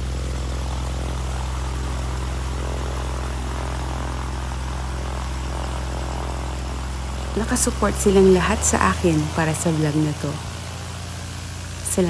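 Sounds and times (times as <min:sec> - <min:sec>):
propeller aircraft engine running: 0:00.0 - 0:12.0.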